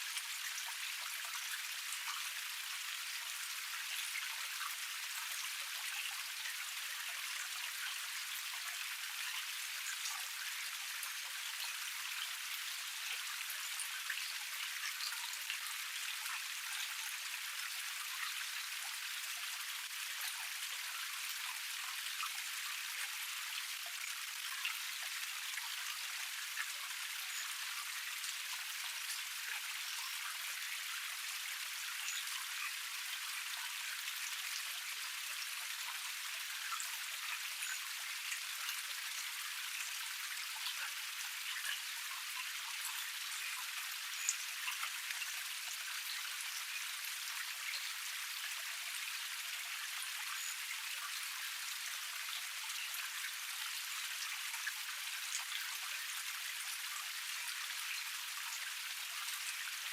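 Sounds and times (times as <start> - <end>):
water cascade pouring and splashing: 0.0 - 59.9.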